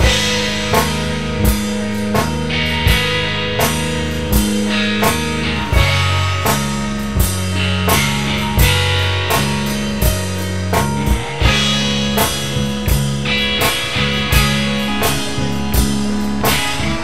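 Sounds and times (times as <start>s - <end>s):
instrumental rock music: 0.0s - 17.0s
strong drum hits: 0.0s - 17.0s.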